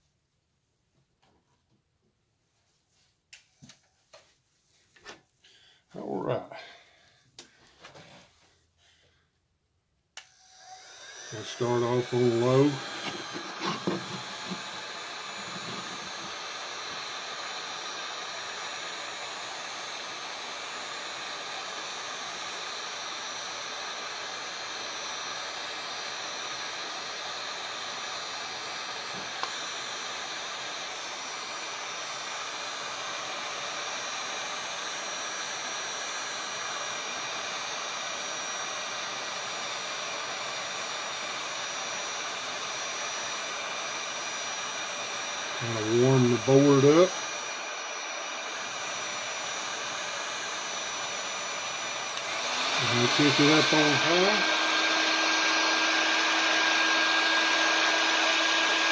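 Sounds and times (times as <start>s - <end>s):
heat gun fan rushing: 10.2s - 58.9s.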